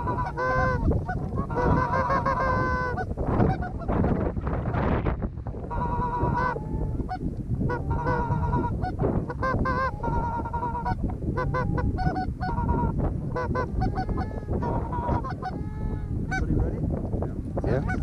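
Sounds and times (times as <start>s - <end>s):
goose calls honking: 0.0s - 3.9s, 5.7s - 16.5s, 17.8s - 18.0s.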